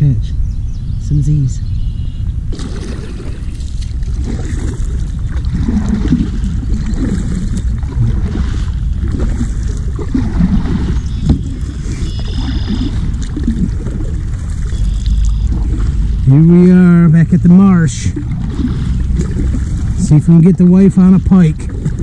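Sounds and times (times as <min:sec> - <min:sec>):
wind rumble on microphone: 0:00.0 - 0:22.0
water splashing against kayak hull: 0:02.5 - 0:22.0.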